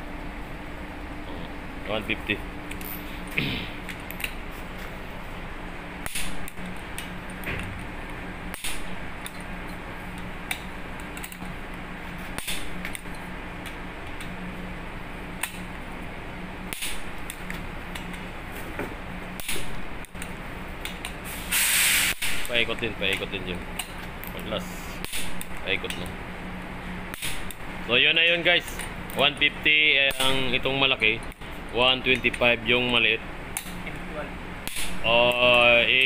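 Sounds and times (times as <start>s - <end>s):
low machinery hum: 0.0s - 36.0s.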